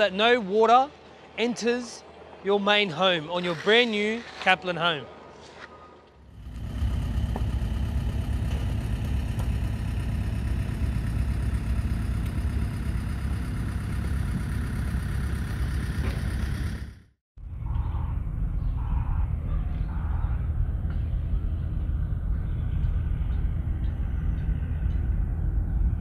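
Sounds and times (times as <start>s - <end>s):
engine rumbling: 5.1s - 26.0s.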